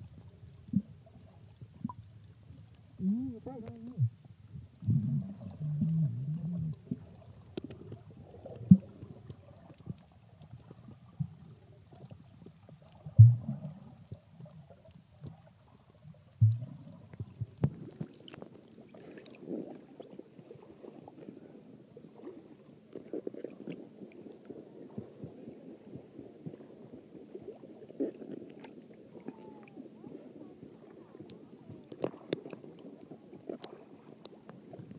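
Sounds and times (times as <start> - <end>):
low sloshing of water: 0.0 - 34.9
muffled underwater sound: 0.0 - 34.9.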